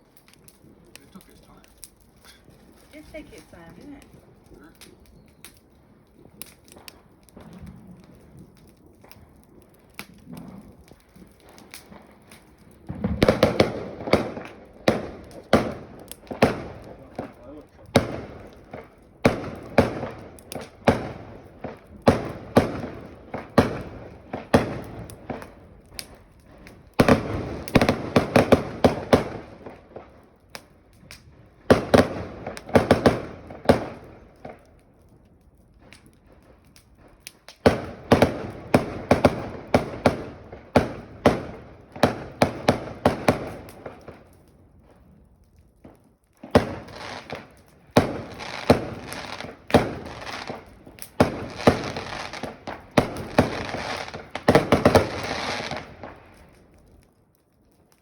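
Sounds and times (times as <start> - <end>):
fireworks crackling and popping: 0.0 - 58.0.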